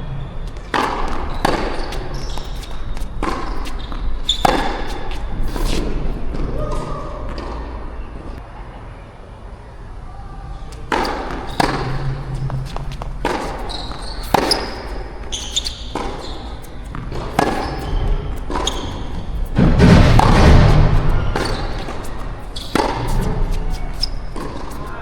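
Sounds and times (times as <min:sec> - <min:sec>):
tennis ball struck by rackets: 0:00.5 - 0:07.8, 0:10.6 - 0:25.0.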